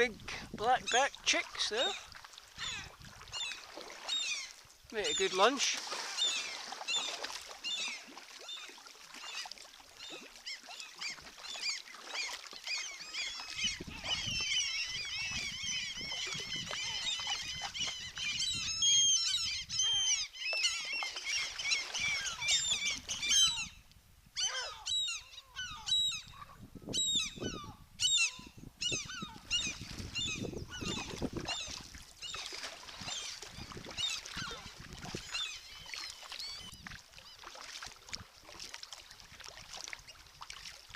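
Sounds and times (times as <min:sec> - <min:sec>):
gulls calling: 0:00.7 - 0:23.8, 0:24.4 - 0:36.8.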